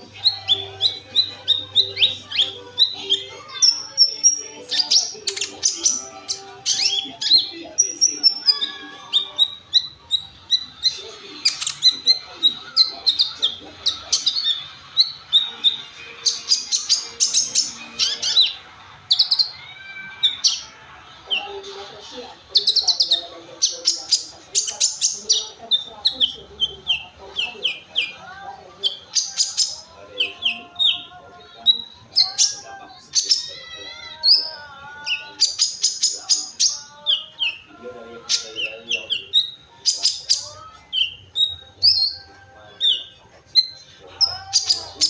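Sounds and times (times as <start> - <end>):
sunbird singing: 0.0 - 45.0.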